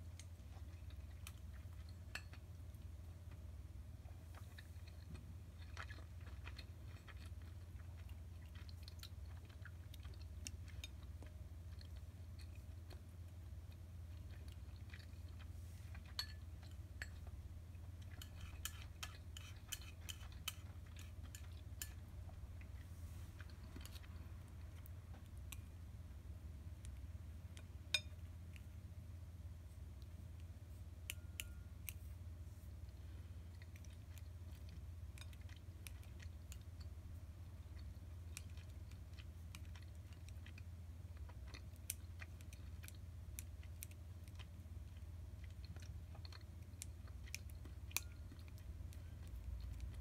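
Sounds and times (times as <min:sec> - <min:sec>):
close chewing: 0:00.0 - 0:25.9, 0:29.7 - 0:50.0
steady low hum: 0:00.0 - 0:50.0.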